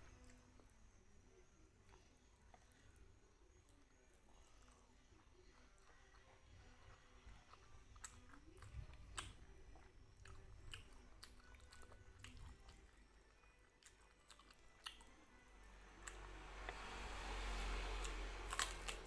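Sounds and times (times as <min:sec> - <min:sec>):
close chewing: 0:00.0 - 0:19.0.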